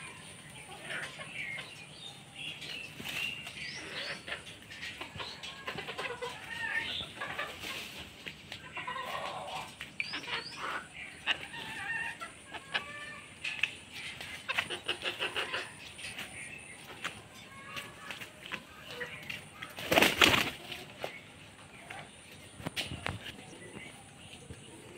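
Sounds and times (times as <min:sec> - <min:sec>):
hens clucking: 0:00.0 - 0:24.9.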